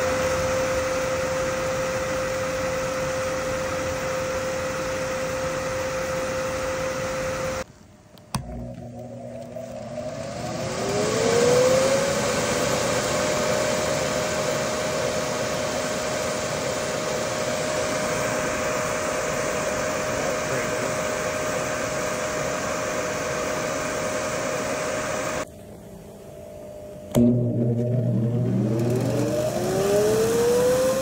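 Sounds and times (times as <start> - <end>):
inflator blower motor whirring: 0.0 - 7.7, 8.3 - 25.5, 27.1 - 31.0.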